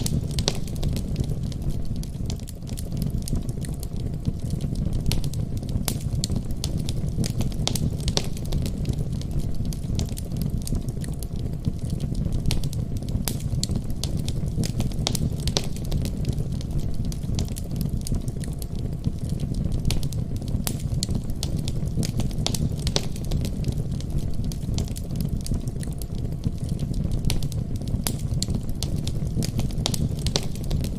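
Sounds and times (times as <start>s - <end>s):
fire crackling and popping: 0.0s - 30.9s
low rumble of flames: 0.0s - 30.9s.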